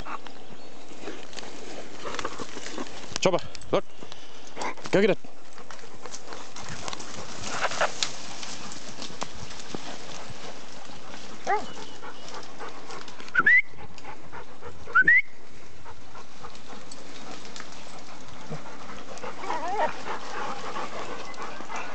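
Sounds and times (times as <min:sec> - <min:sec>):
dogs panting heavily: 0:00.0 - 0:03.2, 0:03.8 - 0:21.9.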